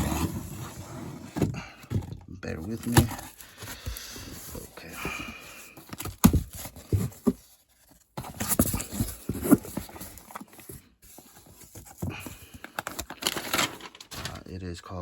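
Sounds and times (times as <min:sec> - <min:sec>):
cardboard box being handled: 0:00.0 - 0:13.9.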